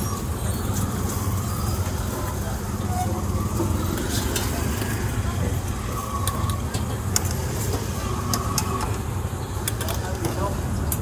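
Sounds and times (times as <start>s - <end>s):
busy kitchen rumble: 0.0s - 11.0s.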